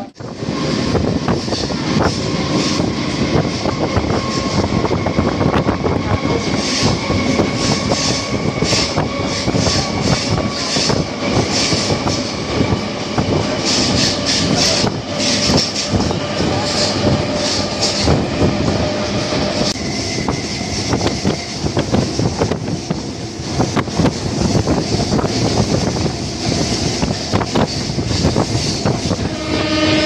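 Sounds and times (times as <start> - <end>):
train wheels rattling on rails: 0.0 - 30.0.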